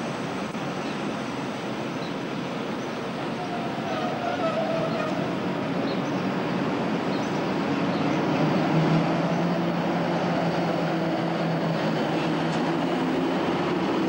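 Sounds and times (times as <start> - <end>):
electric locomotive hum: 0.0 - 14.0
train wheels on rails: 0.0 - 14.0.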